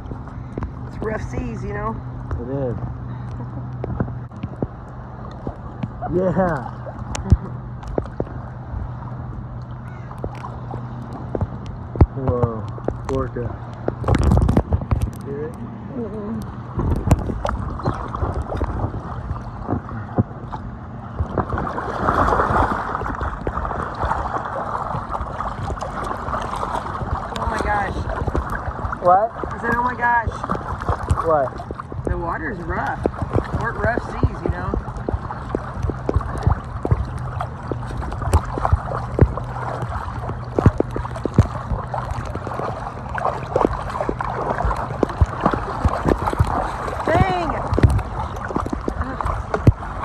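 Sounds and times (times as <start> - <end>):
low steady hum: 0.0 - 50.0
water splashing around raft: 0.0 - 50.0.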